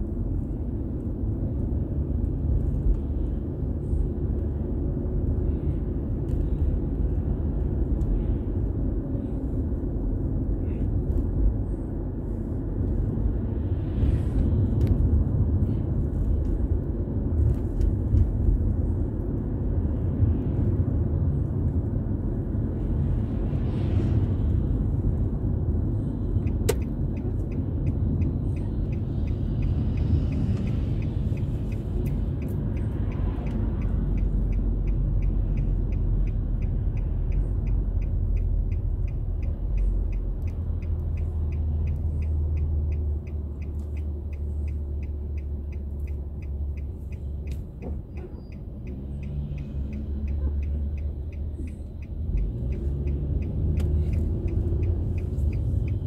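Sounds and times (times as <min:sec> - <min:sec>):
road and engine rumble inside car: 0:00.0 - 0:56.0.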